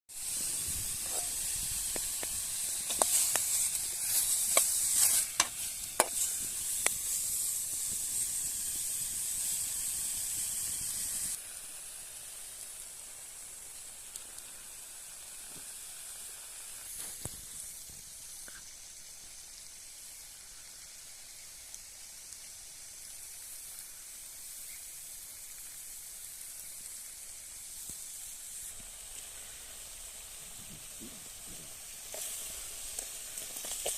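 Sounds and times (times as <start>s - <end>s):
food sizzling in hot oil: 0.1s - 33.9s
oil popping and crackling: 0.1s - 33.9s.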